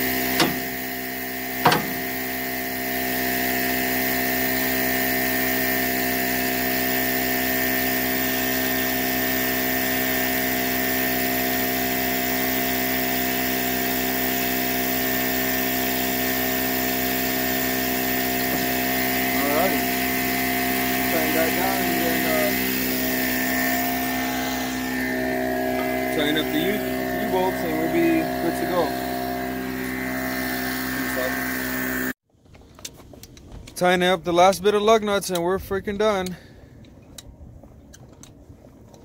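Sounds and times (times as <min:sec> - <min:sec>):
machine droning: 0:00.0 - 0:32.2.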